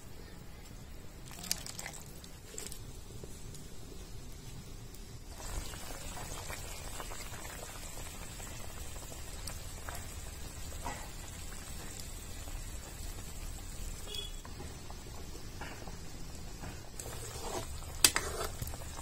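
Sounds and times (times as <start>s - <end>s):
curry bubbling: 1.1s - 19.0s
fire pops and crackles: 1.2s - 19.0s.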